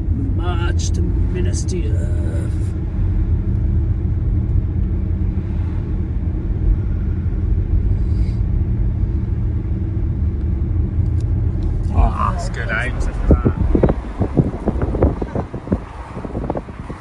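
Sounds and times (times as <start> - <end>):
car engine drone: 0.0 - 17.0
road noise: 0.0 - 17.0.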